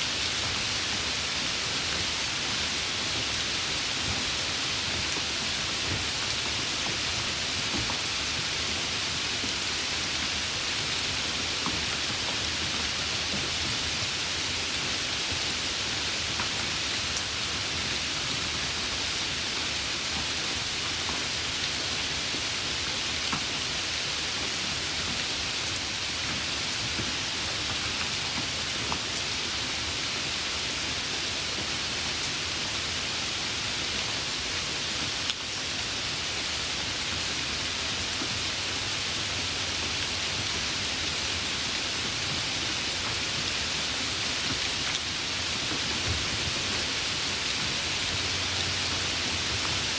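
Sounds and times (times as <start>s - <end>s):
light rain hiss: 0.0s - 49.9s.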